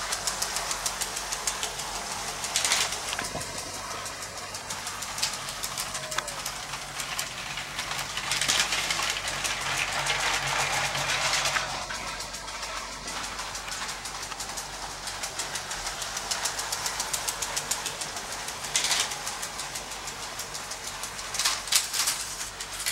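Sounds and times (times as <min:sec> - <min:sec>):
toy train motor hum: 0:00.0 - 0:22.9
wheels clicking over rail joints: 0:00.0 - 0:22.9.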